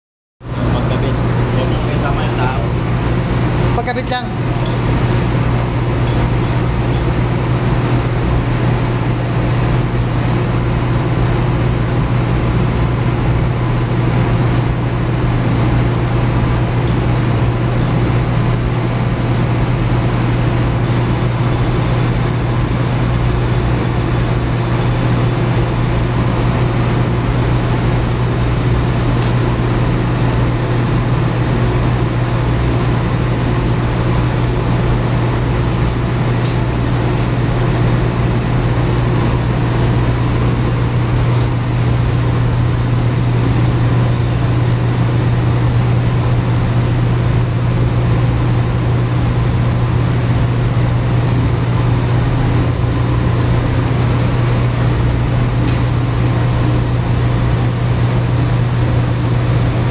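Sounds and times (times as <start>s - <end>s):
machinery humming: 0.4s - 59.9s.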